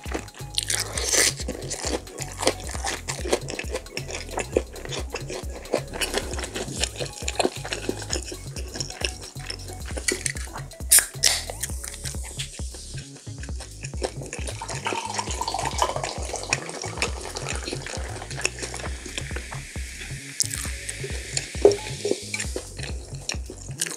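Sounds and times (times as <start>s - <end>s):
chewing and crunching fried food: 0.0s - 23.9s.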